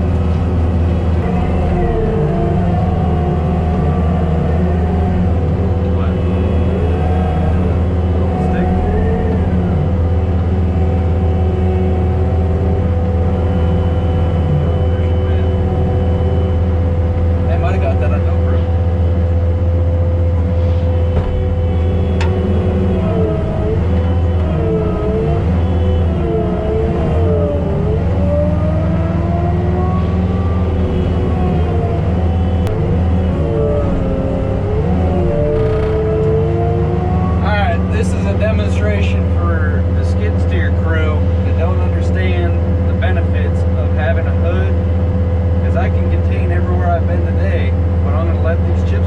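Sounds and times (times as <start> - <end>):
heavy diesel engine running: 0.0 - 49.0
mulcher whine rising and falling: 0.0 - 49.0.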